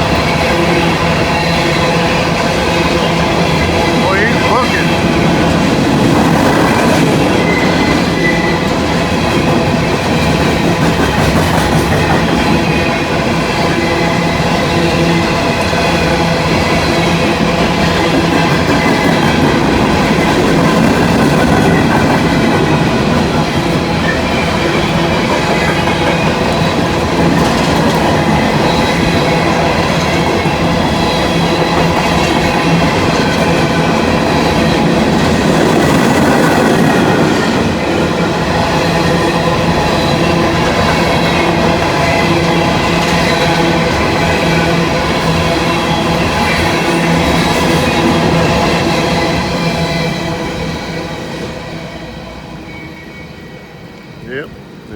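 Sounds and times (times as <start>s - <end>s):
freight train wheels clattering: 0.0s - 52.3s.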